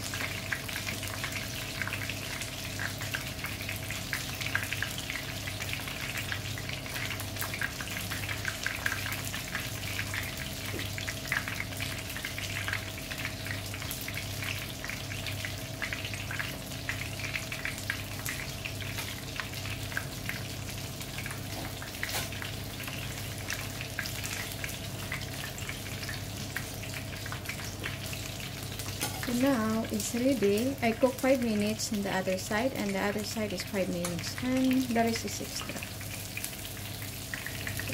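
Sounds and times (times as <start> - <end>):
fish frying in oil: 0.0 - 37.9
low steady hum: 0.0 - 37.9.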